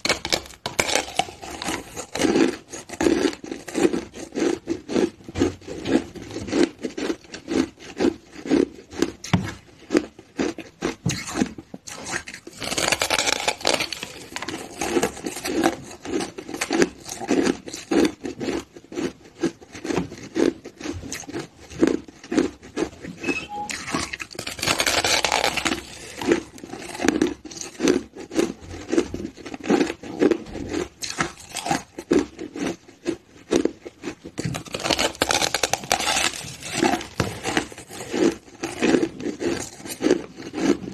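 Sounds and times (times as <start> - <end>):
chewing crushed ice: 0.0 - 40.9.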